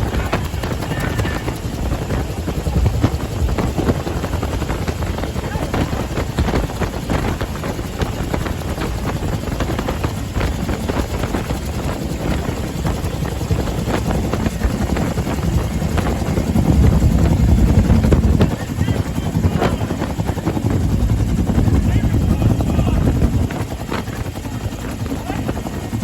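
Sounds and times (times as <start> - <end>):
helicopter rotor and engine: 0.0 - 26.0
wind buffeting microphone: 0.0 - 26.0.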